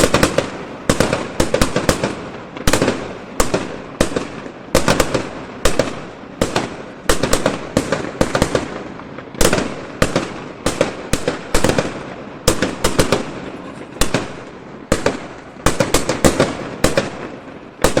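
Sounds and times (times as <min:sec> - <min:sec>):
fireworks exploding: 0:00.0 - 0:18.0.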